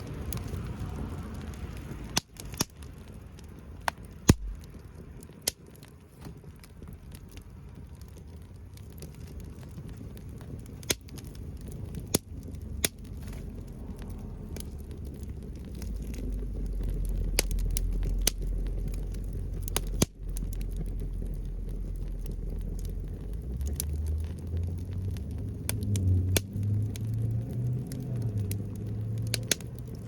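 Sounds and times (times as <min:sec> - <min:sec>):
low steady rumble: 0:00.0 - 0:30.0
wood fire crackling and popping: 0:00.0 - 0:30.0.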